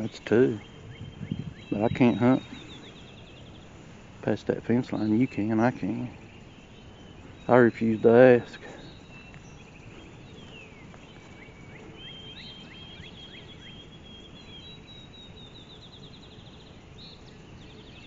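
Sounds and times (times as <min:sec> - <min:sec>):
songbirds singing: 0:00.0 - 0:18.0
steady background hiss: 0:00.0 - 0:18.0.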